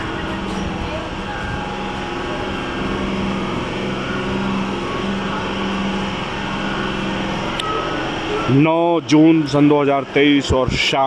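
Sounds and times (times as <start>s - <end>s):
train engine idling: 0.0s - 10.3s.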